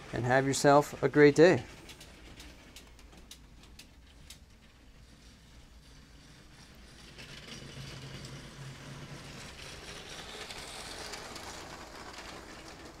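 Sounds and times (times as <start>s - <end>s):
toy train rattling on plastic track: 0.0s - 13.0s.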